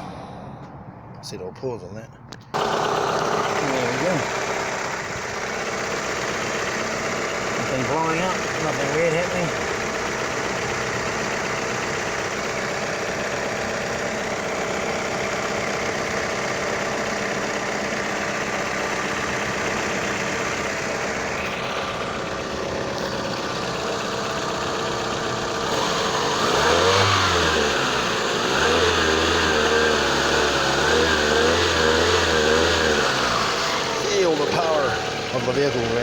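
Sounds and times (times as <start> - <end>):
car engine idling and revving: 2.2 - 36.0.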